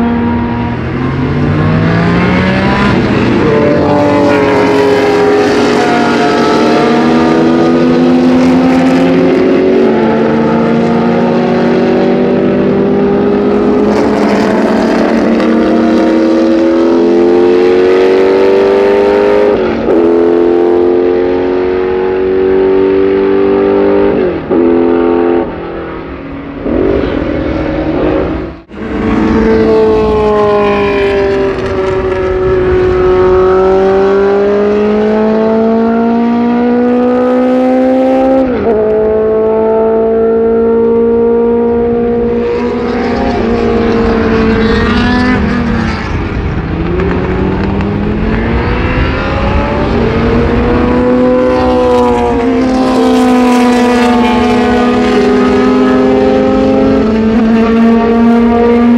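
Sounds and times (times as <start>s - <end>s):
car engine accelerating: 0.0s - 58.9s
racing car engines at full throttle: 0.0s - 58.9s.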